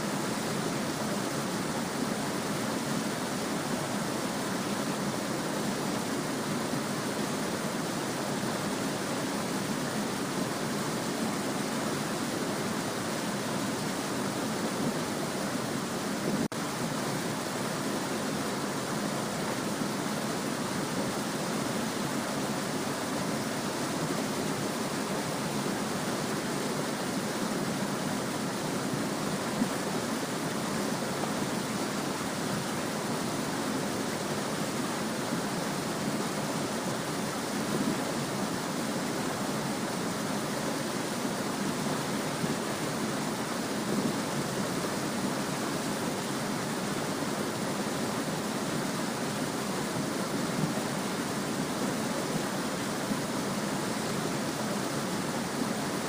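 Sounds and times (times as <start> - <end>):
small stream babbling: 0.0 - 56.0.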